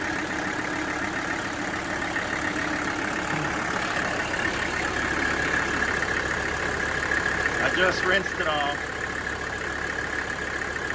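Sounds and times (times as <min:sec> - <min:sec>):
diesel engine idling: 0:00.0 - 0:10.9.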